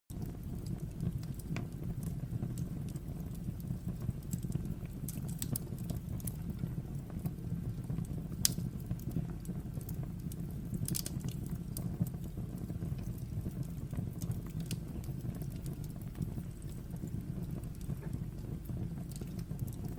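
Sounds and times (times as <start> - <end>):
fire low rumble: 0.1 - 19.9
wood fire crackling and popping: 0.1 - 19.9.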